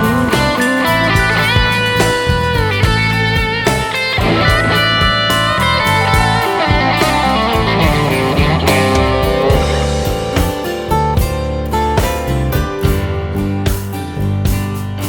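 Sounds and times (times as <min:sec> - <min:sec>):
bass and beat: 0:00.0 - 0:15.0
electric guitar bending notes: 0:00.0 - 0:15.0.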